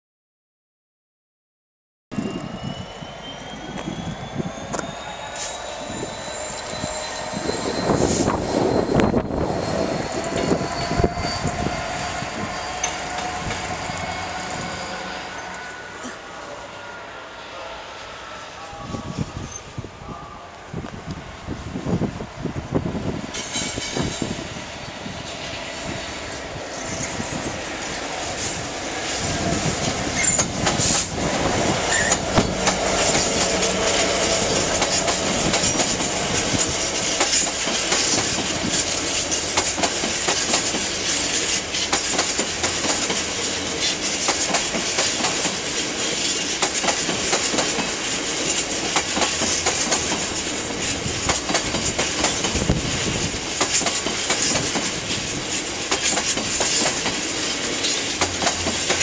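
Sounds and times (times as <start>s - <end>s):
diesel locomotive engine: 2.1s - 59.0s.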